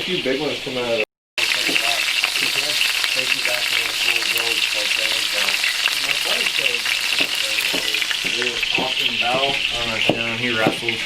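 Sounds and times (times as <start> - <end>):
people talking quietly: 0.0 - 11.0
food sizzling in a pan: 1.4 - 11.0.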